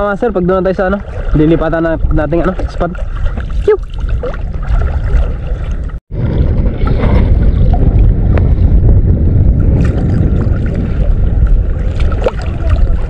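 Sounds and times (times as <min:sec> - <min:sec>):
boat motor rumble: 0:00.0 - 0:13.0
water: 0:00.0 - 0:13.0
wind buffeting microphone: 0:00.0 - 0:13.0.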